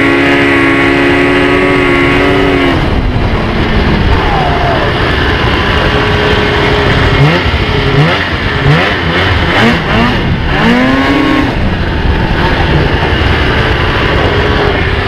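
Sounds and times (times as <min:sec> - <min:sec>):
dense rushing noise: 0:00.0 - 0:15.0
snowmobile engine revving: 0:00.0 - 0:15.0.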